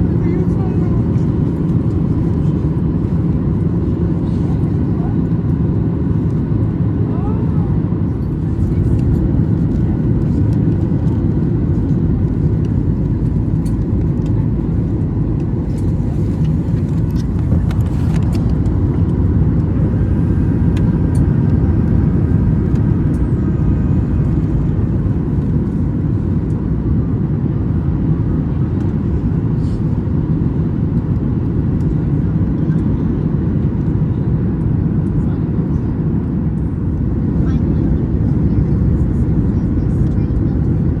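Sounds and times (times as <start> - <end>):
airplane cabin rumble: 0.0 - 41.0.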